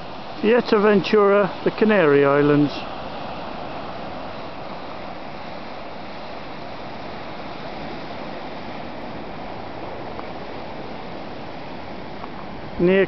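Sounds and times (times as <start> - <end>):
surf breaking on rocks: 0.0 - 13.0
wind: 0.0 - 13.0.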